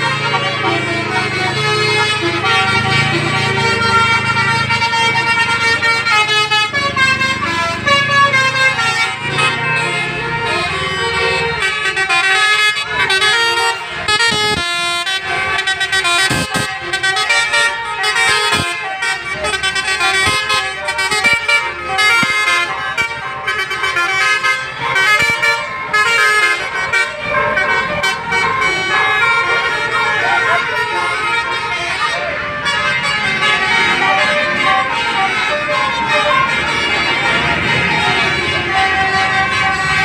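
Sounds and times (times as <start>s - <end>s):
multi-tone air horns playing a tune: 0.0s - 40.0s.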